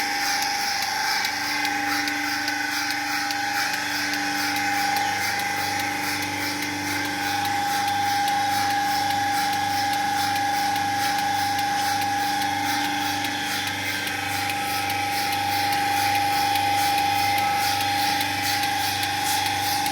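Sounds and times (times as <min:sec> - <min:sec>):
low pulsing hum: 0:00.0 - 0:19.9
machine whine: 0:00.0 - 0:19.9.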